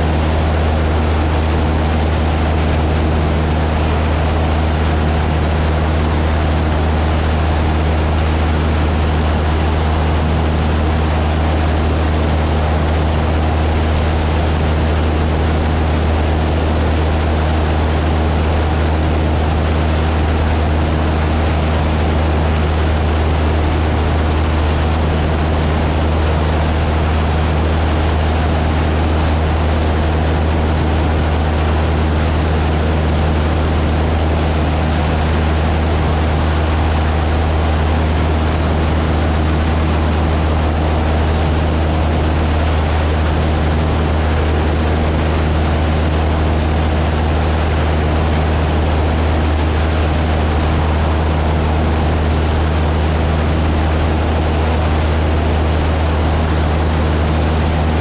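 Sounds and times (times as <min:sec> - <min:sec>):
airplane engine drone: 0:00.0 - 0:58.0.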